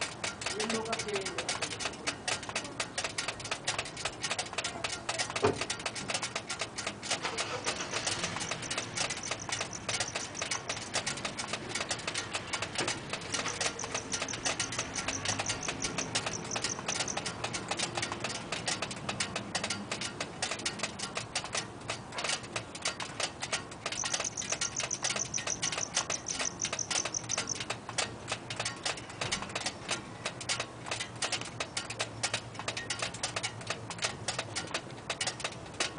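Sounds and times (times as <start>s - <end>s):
exhaust metal ticking and pinging: 0.0s - 35.9s.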